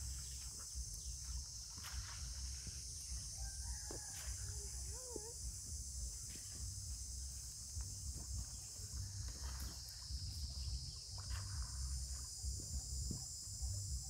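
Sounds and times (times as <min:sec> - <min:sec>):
high insect drone: 0:00.0 - 0:14.0
low uneven rumble: 0:00.0 - 0:14.0.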